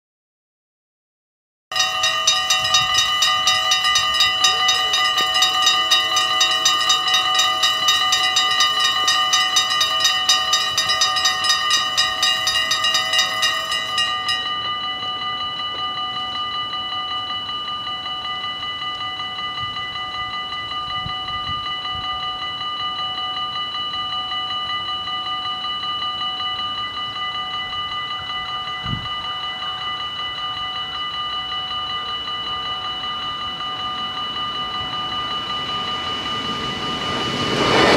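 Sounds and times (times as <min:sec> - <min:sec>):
level crossing bells ringing: 0:01.7 - 0:37.9.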